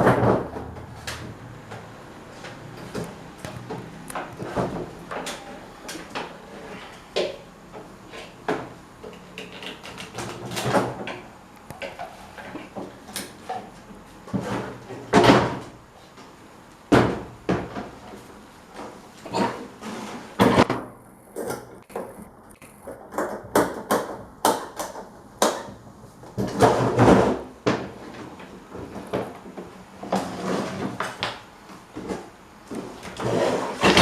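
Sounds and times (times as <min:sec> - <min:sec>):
fan parts clunking and knocking: 0:00.0 - 0:22.2, 0:22.8 - 0:34.0.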